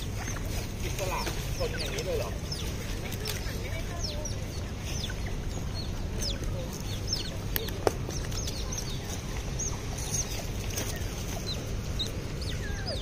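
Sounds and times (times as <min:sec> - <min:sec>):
city background rumble: 0:00.0 - 0:13.0
otters chirping: 0:00.0 - 0:13.0.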